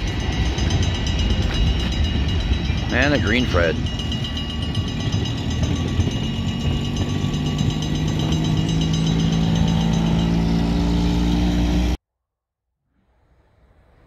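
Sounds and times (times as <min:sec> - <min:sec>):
train cars rumbling: 0:00.0 - 0:11.4
crossing signal bell: 0:00.0 - 0:11.7
truck engine humming: 0:00.0 - 0:12.0.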